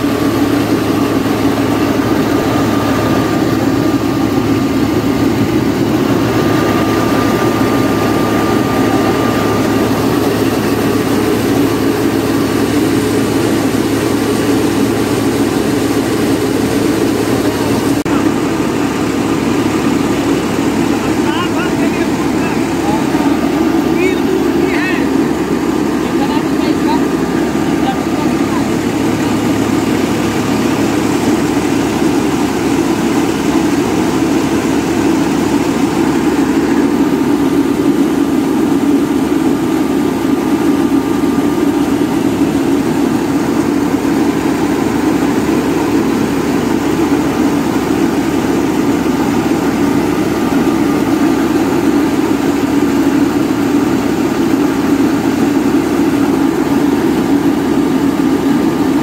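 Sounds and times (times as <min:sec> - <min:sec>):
rice mill machine drone: 0:00.0 - 0:59.0.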